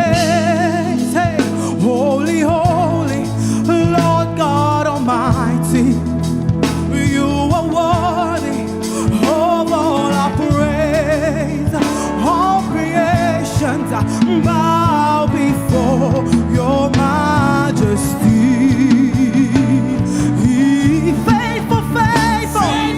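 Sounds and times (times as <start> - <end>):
person singing with vibrato: 0.0 - 22.9
sustained instrumental chords: 0.0 - 22.9.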